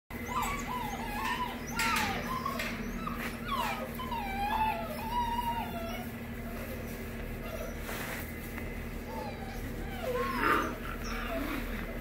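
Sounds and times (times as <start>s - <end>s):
puppies whining and whimpering: 0.1s - 12.0s.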